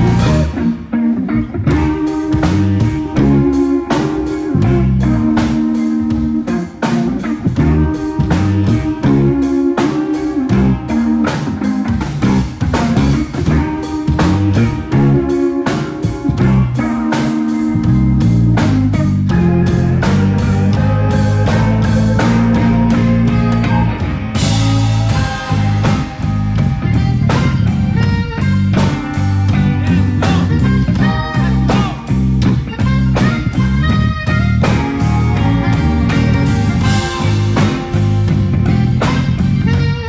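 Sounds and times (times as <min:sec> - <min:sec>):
band playing: 0:00.0 - 0:40.0
drum kit: 0:00.0 - 0:40.0
electric guitar: 0:00.0 - 0:40.0.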